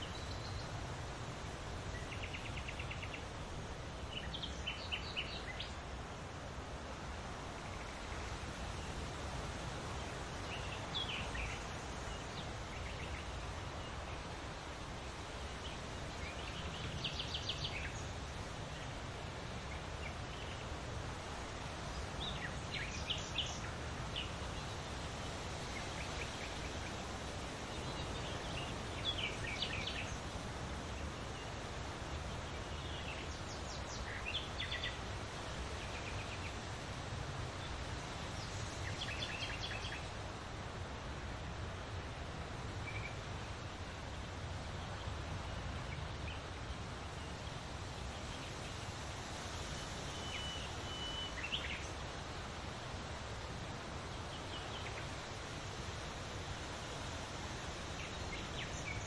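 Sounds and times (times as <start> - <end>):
leaves rustling in wind: 0.0 - 59.0.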